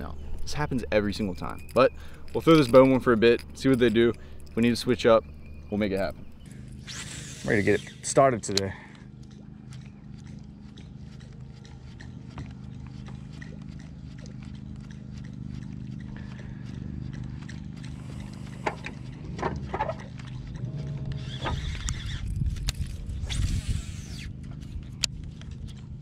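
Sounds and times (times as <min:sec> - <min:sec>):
electric trolling motor hum: 0:00.0 - 0:26.0.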